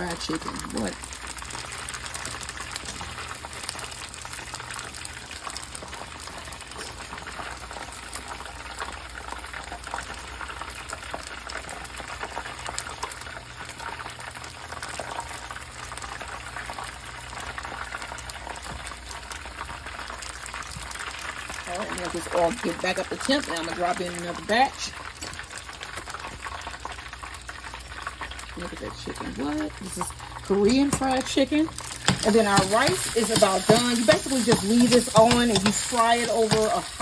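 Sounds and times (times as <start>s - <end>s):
food frying in hot oil: 0.0s - 37.0s.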